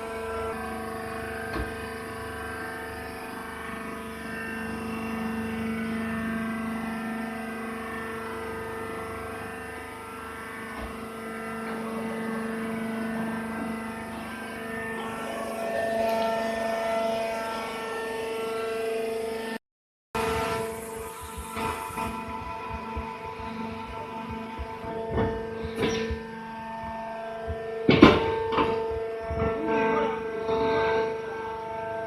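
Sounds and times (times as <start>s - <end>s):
baler machine droning hum: 0.0s - 19.6s, 20.2s - 32.0s.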